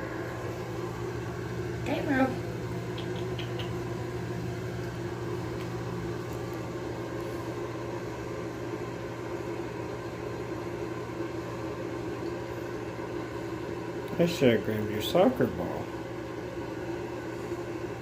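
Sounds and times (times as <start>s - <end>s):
motor or fan humming: 0.0s - 18.0s.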